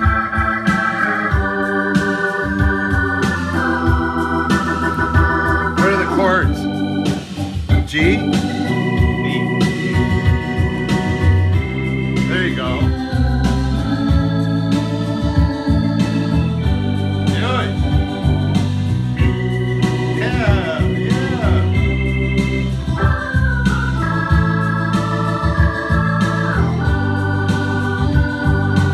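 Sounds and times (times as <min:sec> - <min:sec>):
organ through rotating speaker: 0:00.0 - 0:28.9.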